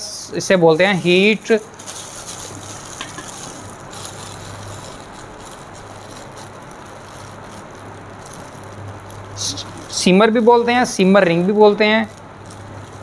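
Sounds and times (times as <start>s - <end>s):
even hiss: 0.0s - 13.0s
steady low hum: 0.0s - 13.0s
plastic wrapping rustling: 0.3s - 13.0s.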